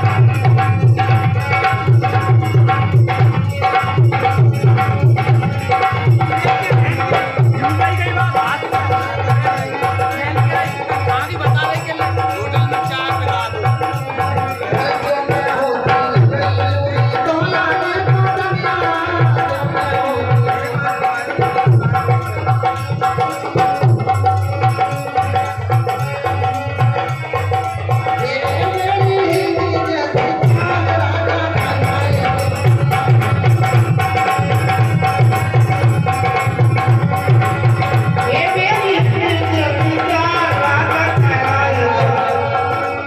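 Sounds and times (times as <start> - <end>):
loud drum rhythm: 0.0 - 43.0
sustained keyboard melody: 0.0 - 43.0.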